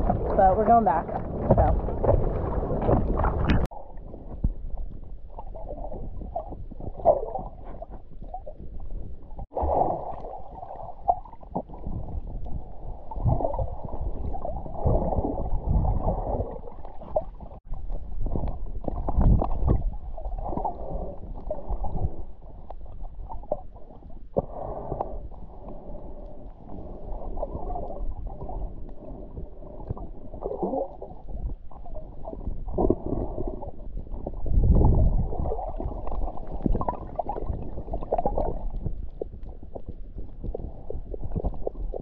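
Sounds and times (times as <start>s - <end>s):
muffled underwater churning water: 0.0s - 42.0s.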